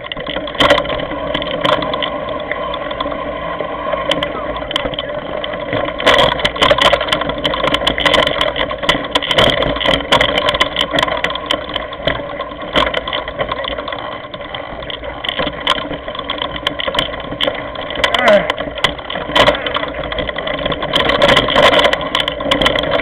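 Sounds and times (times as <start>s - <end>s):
mountain bike rattling on rocky trail: 0.0s - 23.0s.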